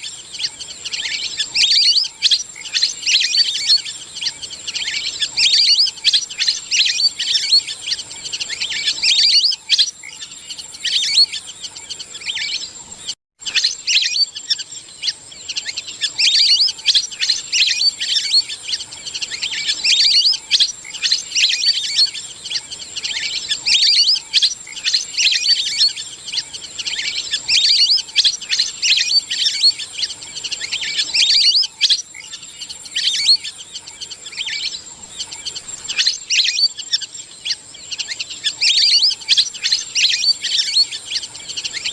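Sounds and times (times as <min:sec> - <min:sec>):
ducks whistling calls: 0:00.0 - 0:41.9.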